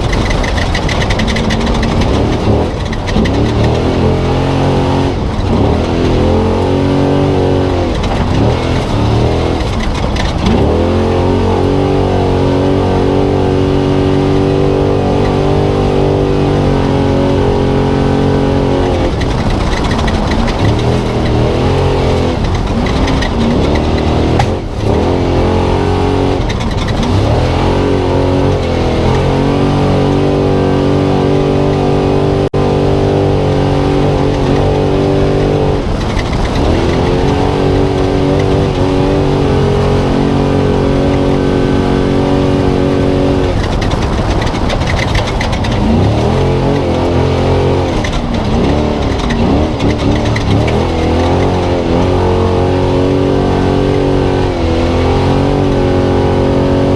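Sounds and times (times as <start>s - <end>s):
truck engine racing: 0.0s - 56.9s
wind and road noise: 0.0s - 56.9s.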